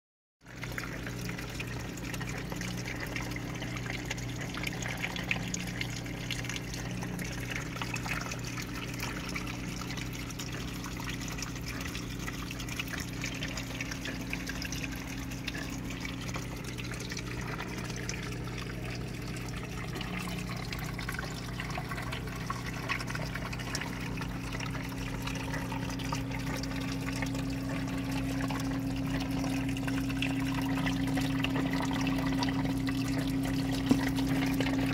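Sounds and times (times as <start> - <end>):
water trickling: 0.4 - 34.9.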